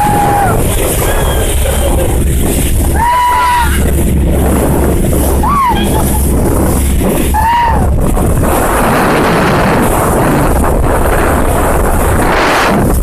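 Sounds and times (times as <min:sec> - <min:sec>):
boat engine rumble: 0:00.0 - 0:13.0
rushing water: 0:00.0 - 0:13.0
wind buffeting microphone: 0:00.0 - 0:13.0.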